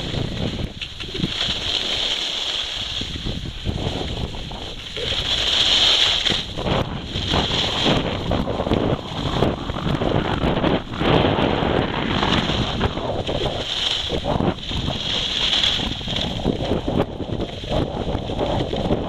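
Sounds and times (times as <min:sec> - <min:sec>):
skis scraping on snow: 0:00.0 - 0:19.0
wind rushing over microphone: 0:00.0 - 0:19.0.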